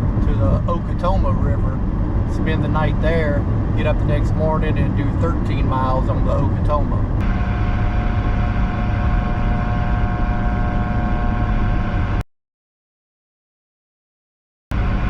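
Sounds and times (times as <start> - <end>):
car cabin road noise: 0.0 - 12.2
faint steady whine: 0.0 - 12.2, 14.7 - 15.0.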